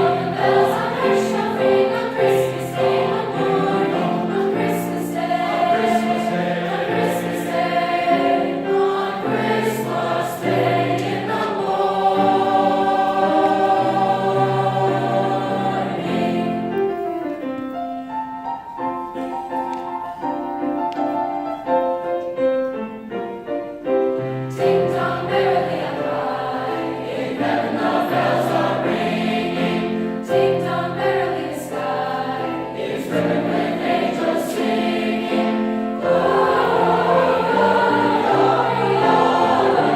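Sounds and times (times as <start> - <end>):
choir singing sustained chords: 0.0 - 17.0, 24.2 - 39.9.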